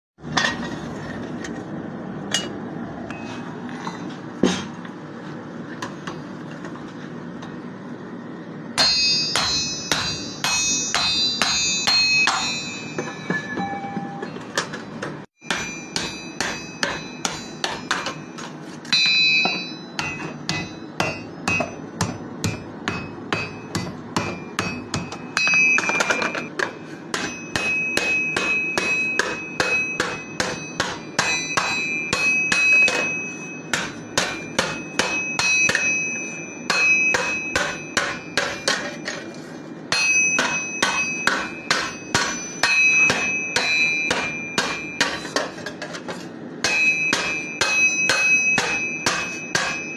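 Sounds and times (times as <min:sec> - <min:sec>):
hammer striking steel on anvil: 0:02.3 - 0:03.2, 0:08.8 - 0:49.9.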